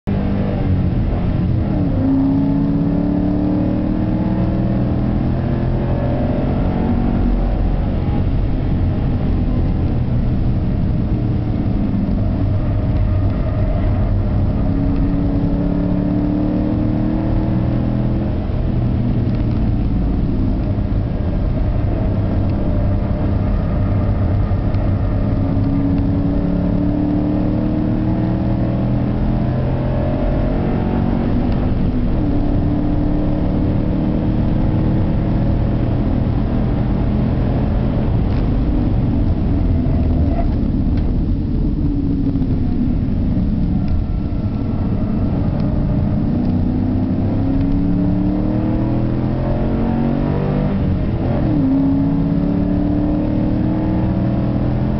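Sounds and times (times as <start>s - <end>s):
car engine accelerating: 0.0s - 54.9s
road and drivetrain rumble: 0.0s - 54.9s.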